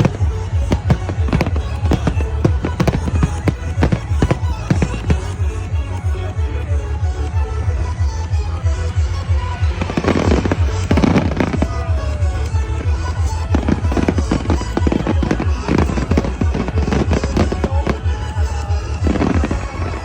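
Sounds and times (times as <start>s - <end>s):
fireworks bursting and crackling: 0.0s - 5.3s, 8.8s - 20.0s
music playing: 0.0s - 20.0s.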